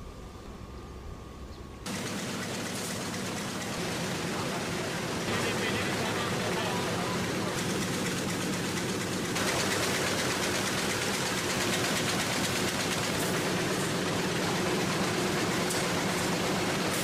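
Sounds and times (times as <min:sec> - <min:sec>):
printing press running: 0:01.9 - 0:17.0.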